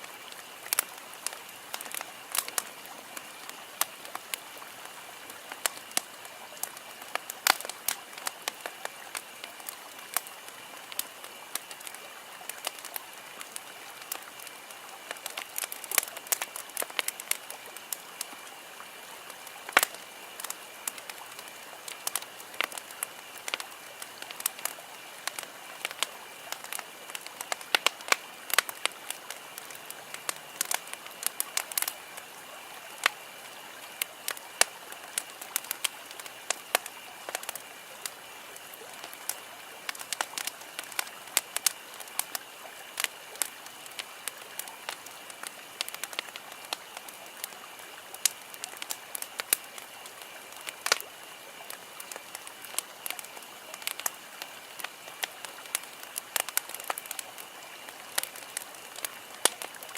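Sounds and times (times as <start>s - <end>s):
campfire crackling: 0.0s - 59.9s
soft hiss: 0.0s - 59.9s.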